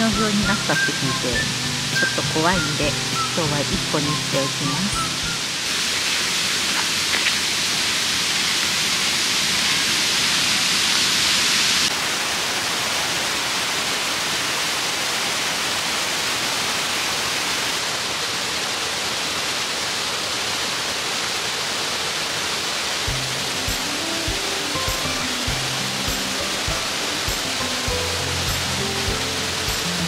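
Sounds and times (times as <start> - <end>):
stream cascading over rocks: 0.1 - 30.0
waterfall rushing: 0.2 - 30.0.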